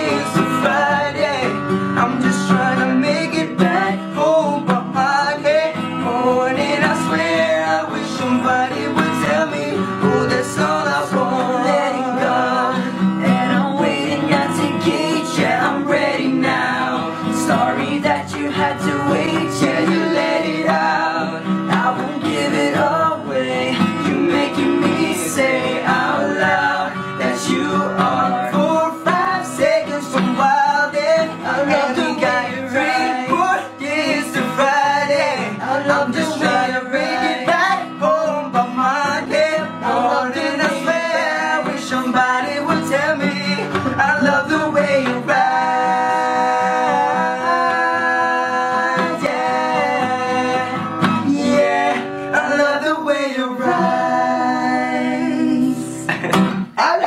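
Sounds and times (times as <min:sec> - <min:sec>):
guitar: 0:00.0 - 0:57.0
young man singing: 0:00.0 - 0:57.0.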